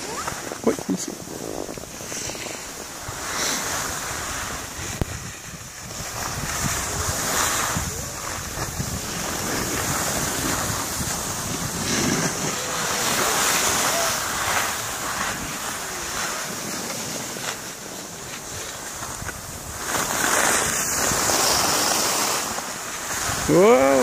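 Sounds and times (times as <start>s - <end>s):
skis scraping over snow: 0.0s - 24.0s
wind rumbling on microphone: 0.0s - 24.0s.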